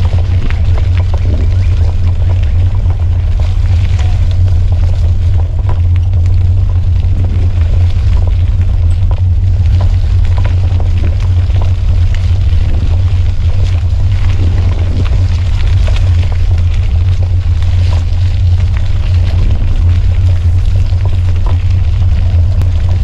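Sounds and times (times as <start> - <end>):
bike clicks and rattles: 0.0 - 23.0
wind rumble on microphone: 0.0 - 23.0.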